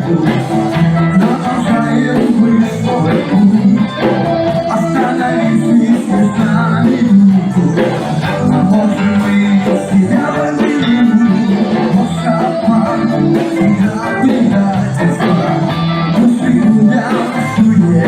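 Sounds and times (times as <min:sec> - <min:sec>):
rock band instrumental: 0:00.0 - 0:18.0.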